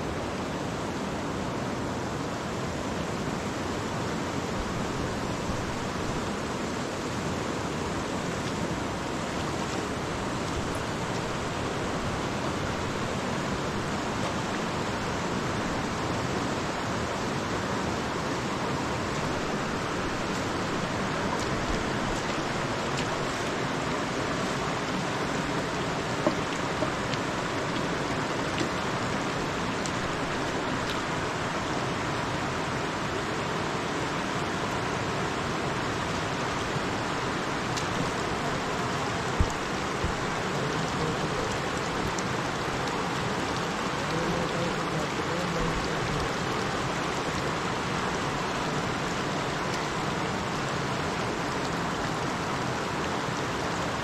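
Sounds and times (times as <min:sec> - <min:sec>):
fast river rushing: 0:00.0 - 0:54.0.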